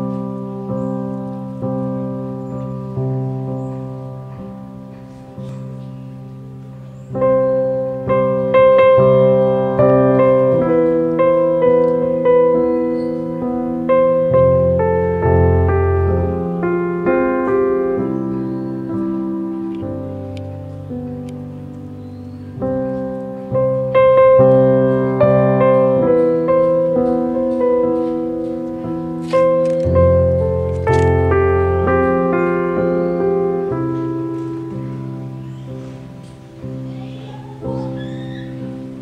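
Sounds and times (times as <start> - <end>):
slow melody of struck notes: 0.0 - 38.0
slow piano chords: 0.0 - 39.0.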